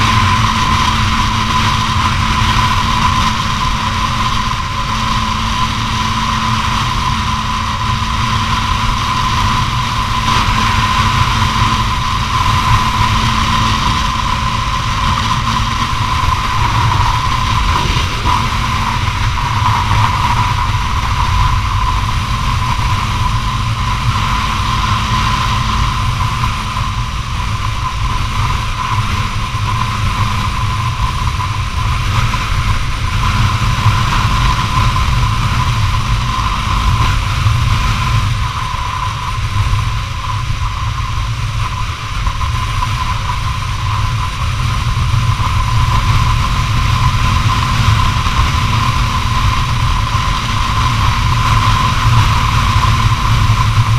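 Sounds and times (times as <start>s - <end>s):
constant high whine: 0.0s - 53.9s
motorcycle engine running: 0.0s - 53.9s
wind rumble on microphone: 0.0s - 53.9s.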